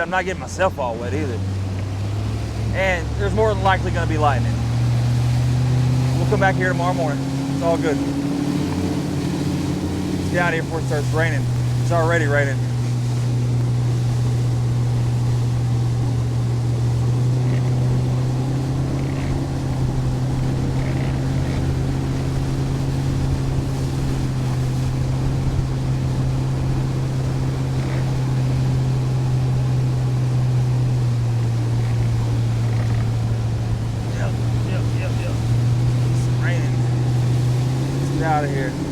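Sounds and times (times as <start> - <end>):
boat motor running: 0.0 - 38.9
water noise: 0.0 - 38.9.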